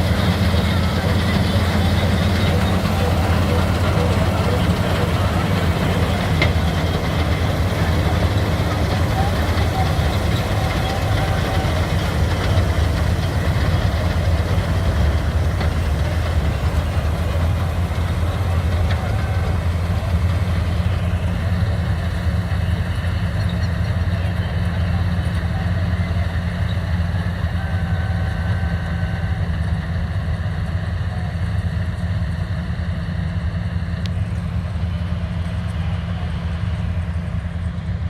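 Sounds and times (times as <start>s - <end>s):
harvester engine humming: 0.0s - 38.0s.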